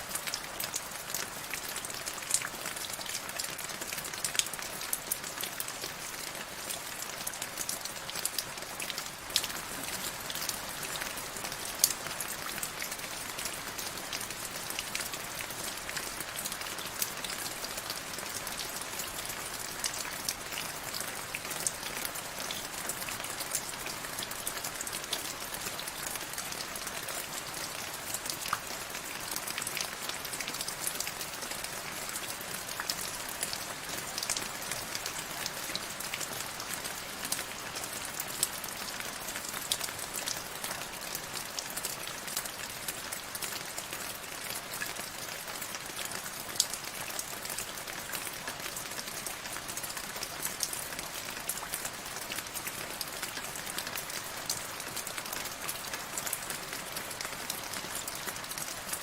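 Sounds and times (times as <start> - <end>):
raindrops ticking on a surface: 0.0 - 59.0
steady rain falling: 0.0 - 59.0.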